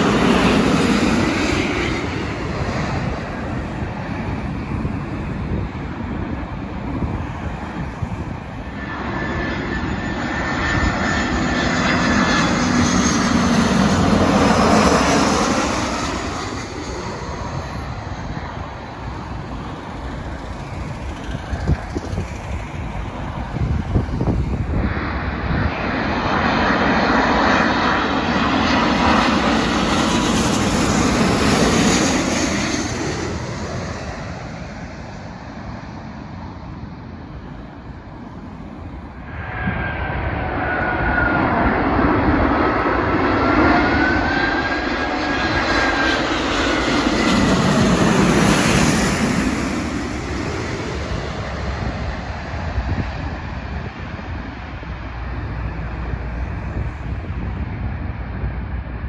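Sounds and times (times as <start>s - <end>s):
jet airliners passing low: 0.0s - 59.0s
wavering jet engine whine: 0.0s - 59.0s
wind rumble on microphone: 0.0s - 59.0s.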